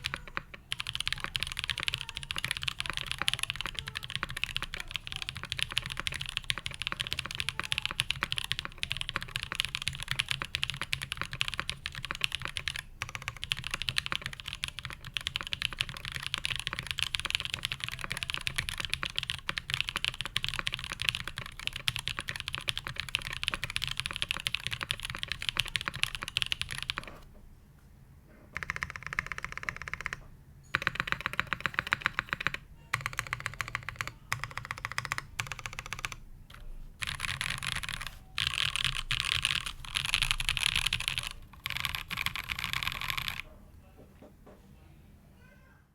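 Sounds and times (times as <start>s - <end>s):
fast mechanical keyboard typing: 0.0s - 27.2s, 28.6s - 43.5s.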